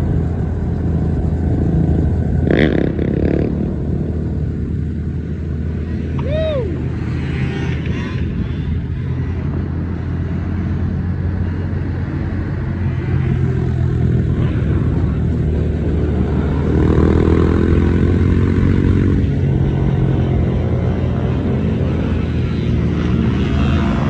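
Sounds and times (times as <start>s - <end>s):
small motorcycle engines revving: 0.0s - 24.0s.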